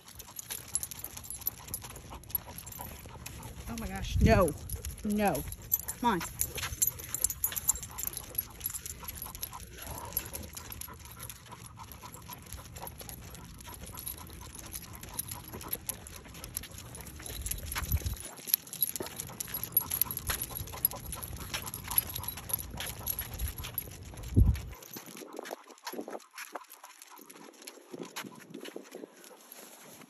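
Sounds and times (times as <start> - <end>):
dogs panting: 0.0 - 30.0.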